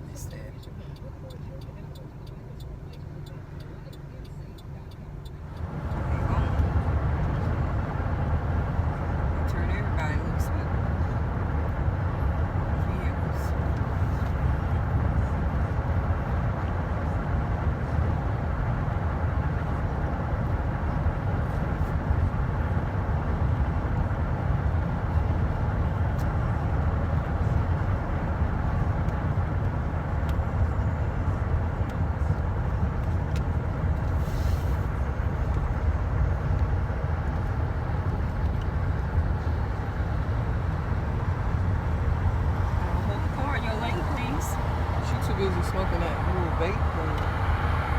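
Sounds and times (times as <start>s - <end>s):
car cabin road and engine noise: 0.0s - 47.9s.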